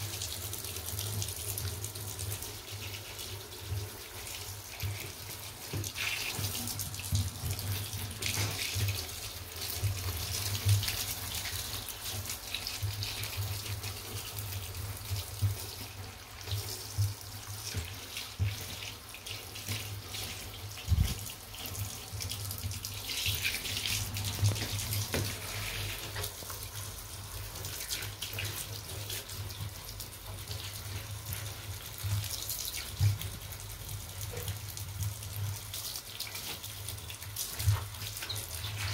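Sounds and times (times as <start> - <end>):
shower water splashing: 0.0 - 38.9.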